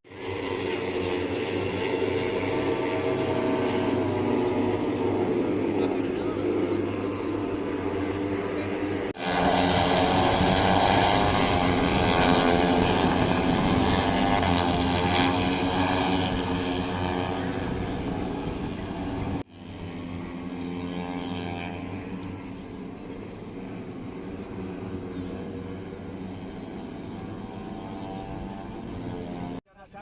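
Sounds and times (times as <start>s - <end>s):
racing motorcycles passing at high revs: 0.1s - 29.6s.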